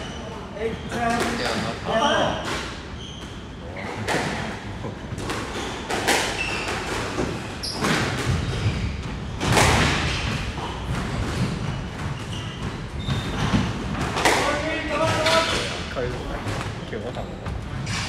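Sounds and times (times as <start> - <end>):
squash ball smacking rackets and walls: 2.3 - 16.8.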